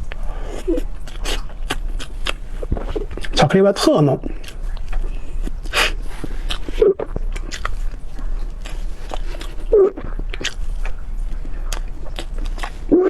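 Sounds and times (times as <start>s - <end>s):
person chewing cake: 0.0s - 3.6s, 4.2s - 13.0s.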